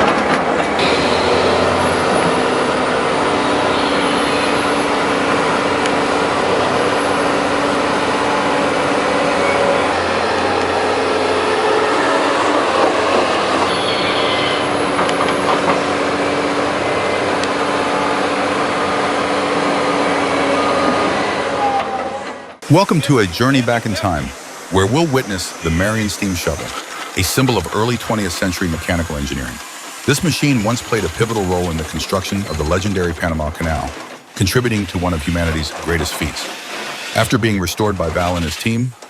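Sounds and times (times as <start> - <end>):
excavator engine and hydraulics: 0.0 - 39.0.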